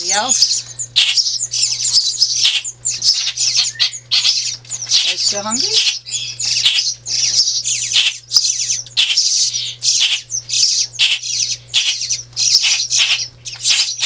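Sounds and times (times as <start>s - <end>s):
nestling birds begging calls: 0.0s - 14.0s
steady low hum: 0.0s - 14.0s.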